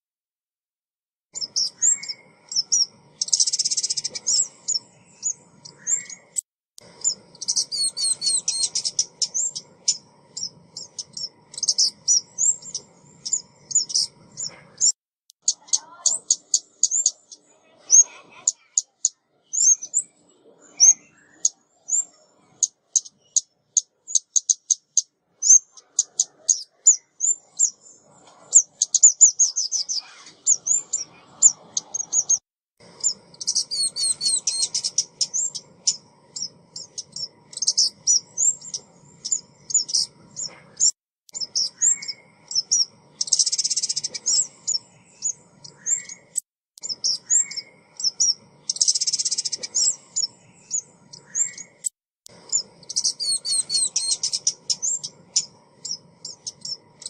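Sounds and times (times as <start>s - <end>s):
songbird high chirps: 1.3s - 57.0s.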